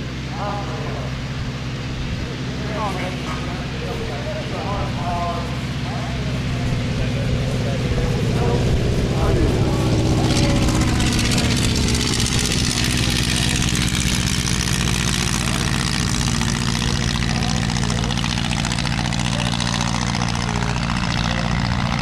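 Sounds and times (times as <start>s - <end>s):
propeller aircraft engine running: 0.0s - 22.0s.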